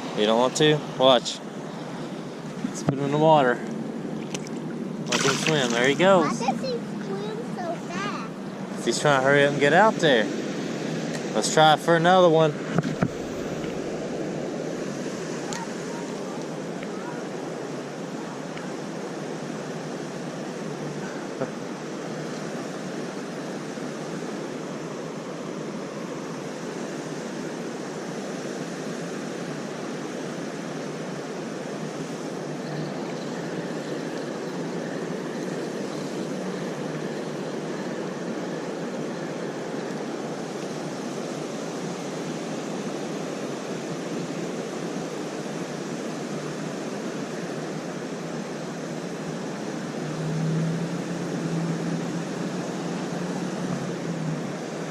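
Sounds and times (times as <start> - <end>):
creek water rushing: 0.0 - 54.9.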